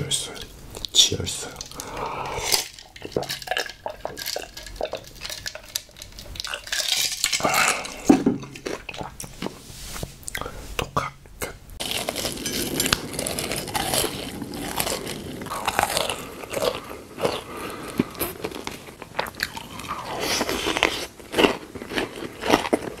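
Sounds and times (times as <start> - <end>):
person chewing crunchy food: 0.7 - 10.5, 11.8 - 23.0.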